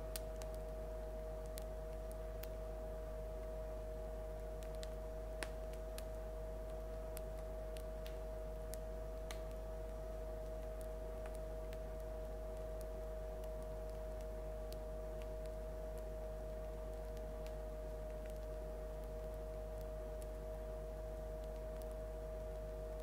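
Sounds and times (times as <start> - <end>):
bread crust crackling: 0.0 - 23.0
steady hum: 0.0 - 23.0.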